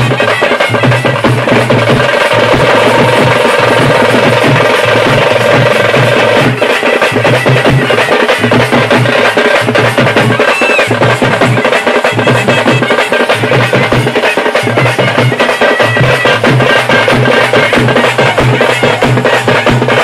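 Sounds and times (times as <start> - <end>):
frame drums beaten with sticks: 0.0 - 20.0.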